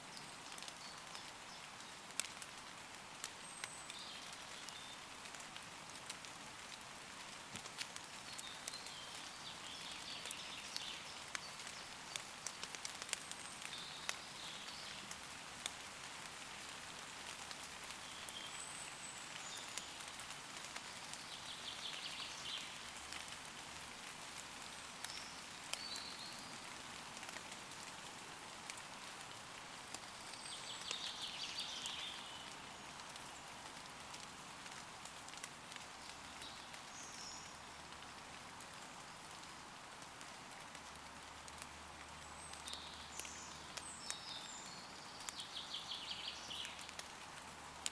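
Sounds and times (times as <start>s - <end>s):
rain falling on leaves: 0.0s - 47.9s.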